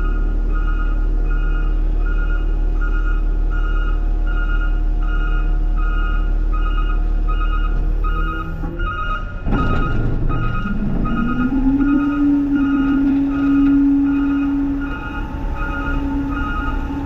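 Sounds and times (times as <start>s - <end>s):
diesel engine running: 0.0s - 17.0s
truck backup alarm beeping: 0.0s - 17.0s.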